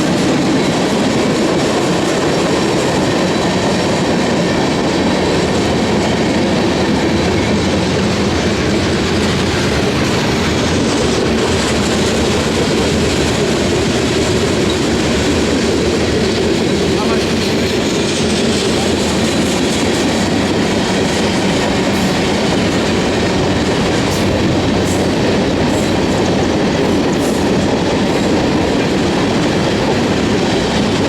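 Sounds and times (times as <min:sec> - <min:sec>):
freight train wheels rumbling on track: 0:00.0 - 0:31.0.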